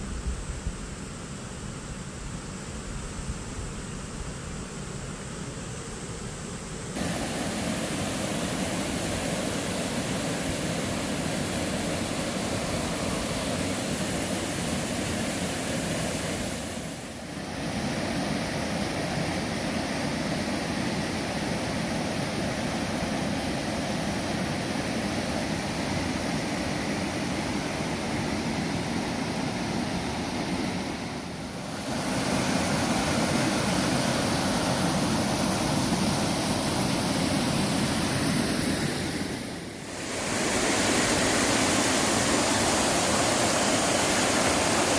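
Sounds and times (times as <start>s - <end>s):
stream water rushing and splashing: 7.0s - 44.9s.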